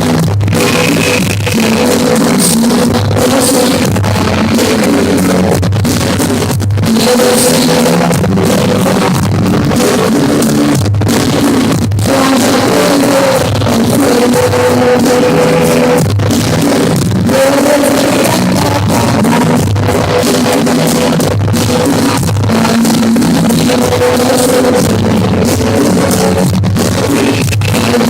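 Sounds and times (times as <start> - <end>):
drum kit: 0.0 - 28.0
electric guitar: 0.0 - 28.0.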